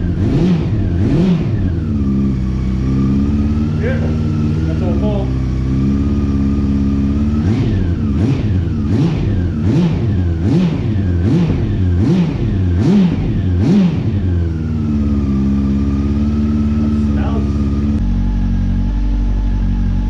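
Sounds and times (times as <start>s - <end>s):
motorcycle engine revving and idling: 0.0s - 20.0s.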